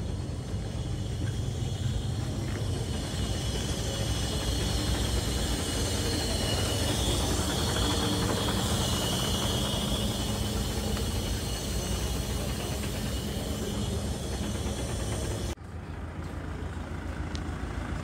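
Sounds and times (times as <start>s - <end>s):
truck diesel engine rumbling: 0.0s - 18.0s.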